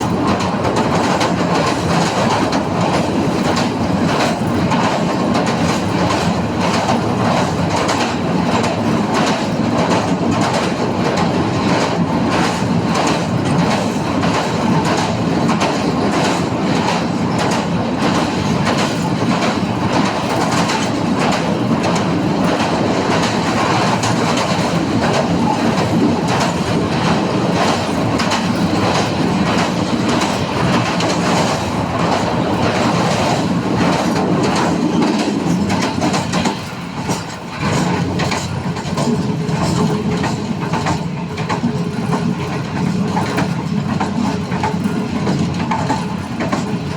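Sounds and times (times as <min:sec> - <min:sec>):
train rumbling over bridge: 0:00.0 - 0:46.9
wheels clattering over rail joints: 0:00.0 - 0:46.9.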